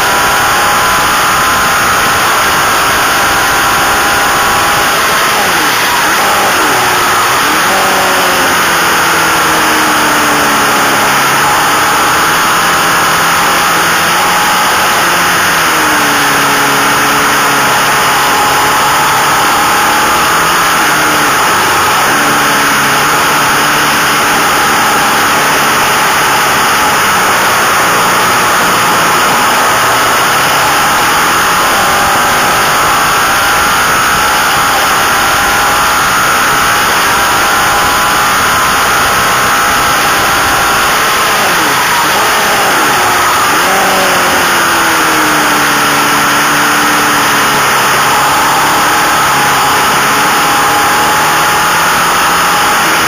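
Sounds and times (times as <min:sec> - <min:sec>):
racing motorcycle engine: 0:00.0 - 0:53.0.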